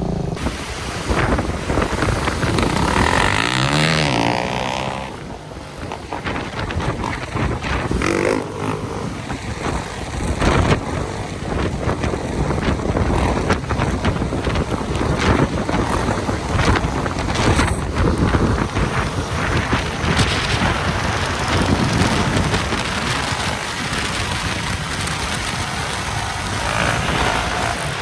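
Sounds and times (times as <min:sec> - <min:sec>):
motorcycle engine running: 0:00.0 - 0:28.0
wind buffeting microphone: 0:00.0 - 0:28.0.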